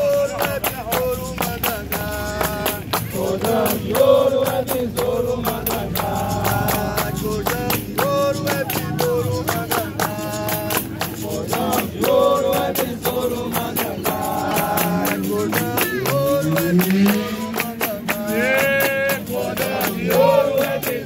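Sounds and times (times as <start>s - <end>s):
group singing: 0.0s - 21.0s
hand-clapping: 0.0s - 21.0s
pandeiros: 0.0s - 21.0s.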